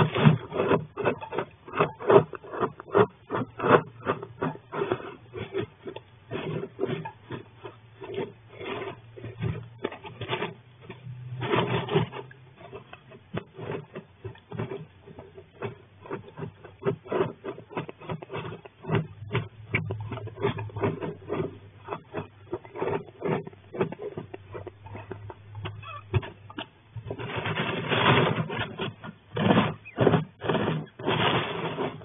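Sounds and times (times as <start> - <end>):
animal scratching in wood shavings: 0.0 - 32.0.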